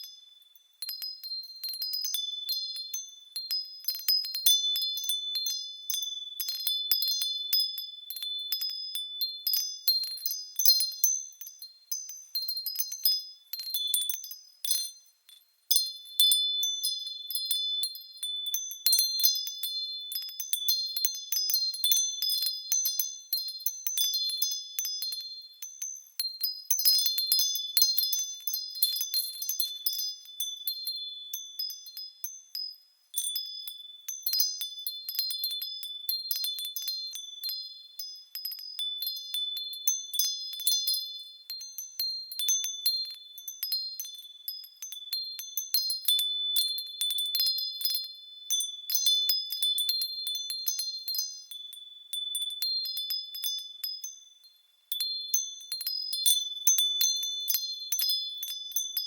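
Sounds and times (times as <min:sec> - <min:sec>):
wind chimes tinkling: 0:00.0 - 0:59.0.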